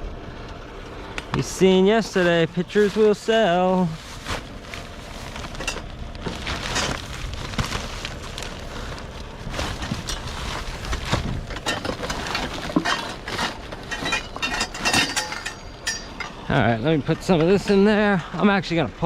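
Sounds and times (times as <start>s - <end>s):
steady low rumble: 0.0s - 19.0s
junk being rummaged through: 1.3s - 18.2s.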